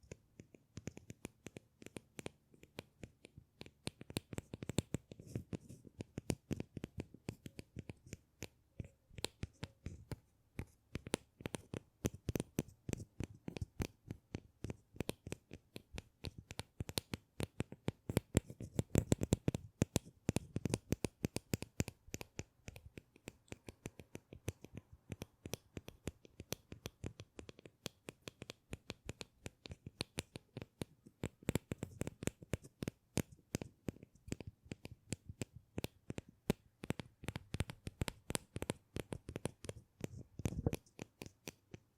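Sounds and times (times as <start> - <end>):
rapid tapping and scratching clicks: 0.0 - 41.9.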